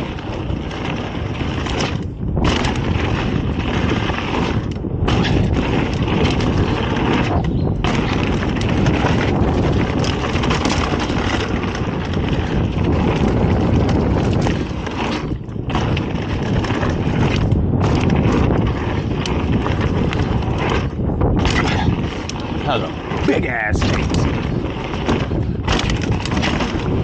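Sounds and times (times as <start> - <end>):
bike rattling and knocking: 0.0 - 27.0
tyre rumble on dirt: 0.0 - 27.0
wind buffeting microphone: 0.0 - 27.0.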